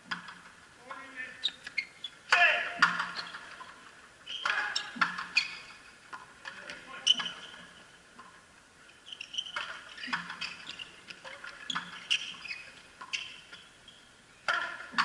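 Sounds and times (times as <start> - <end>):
shoes squeaking on court: 1.0 - 8.0, 8.9 - 15.0.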